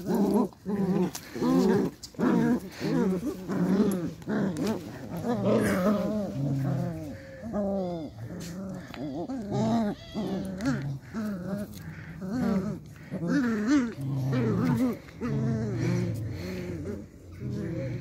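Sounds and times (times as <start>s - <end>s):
puppies growling and whining: 0.0s - 18.0s.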